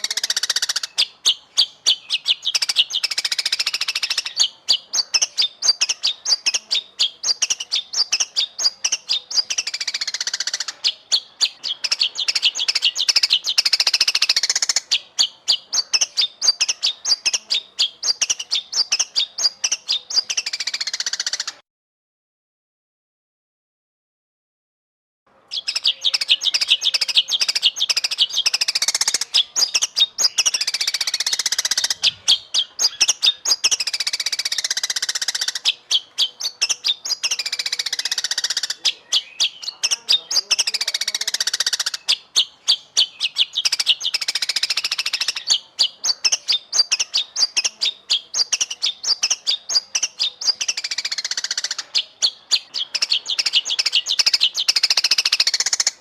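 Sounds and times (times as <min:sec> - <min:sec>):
songbird trills and whistles: 0:00.0 - 0:21.6, 0:25.5 - 0:56.0.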